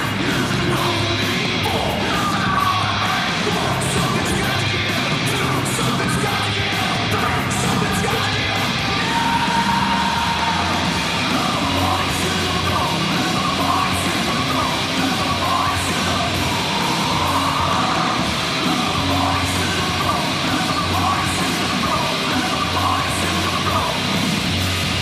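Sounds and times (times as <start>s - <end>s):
heavy rock music with yelled vocals: 0.0s - 25.0s.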